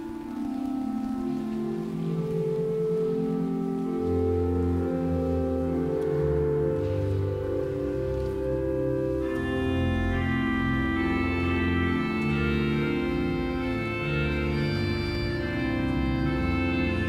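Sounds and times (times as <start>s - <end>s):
pipe organ playing chords: 0.0s - 17.0s.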